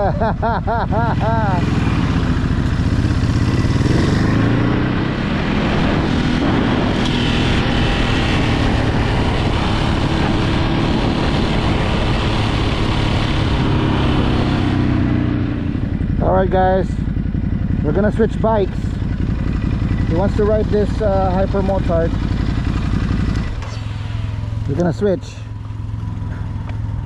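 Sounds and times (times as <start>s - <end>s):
motorcycle engine running: 0.0s - 27.0s
road noise: 0.0s - 27.0s.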